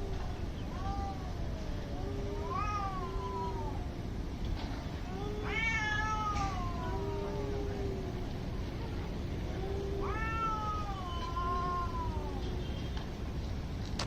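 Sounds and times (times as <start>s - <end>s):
cats yowling: 0.0s - 3.9s, 5.0s - 12.5s.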